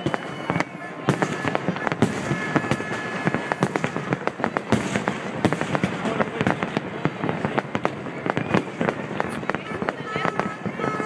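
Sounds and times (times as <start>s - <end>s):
fireworks bursting: 0.0s - 11.0s
fireworks rumble and crackle: 0.0s - 11.0s.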